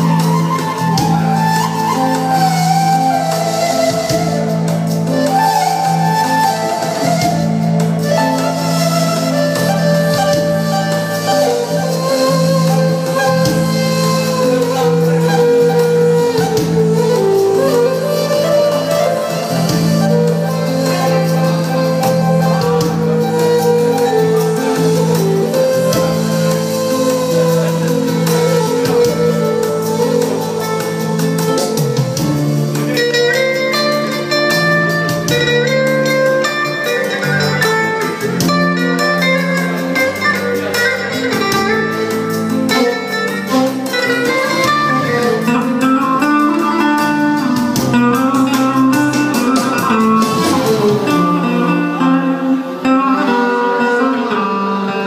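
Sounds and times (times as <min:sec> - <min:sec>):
folk band playing: 0:00.0 - 0:55.0
plucked string instrument: 0:00.0 - 0:55.0.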